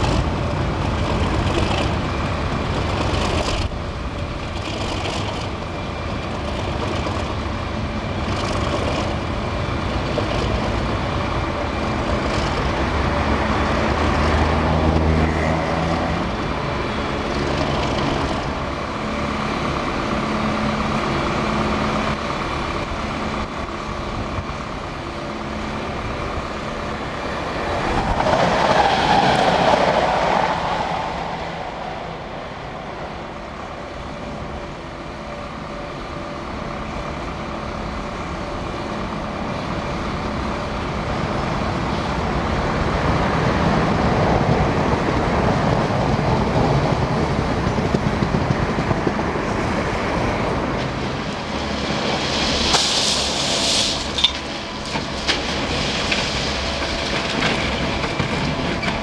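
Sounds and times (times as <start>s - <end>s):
diesel locomotive running: 0.0s - 59.0s.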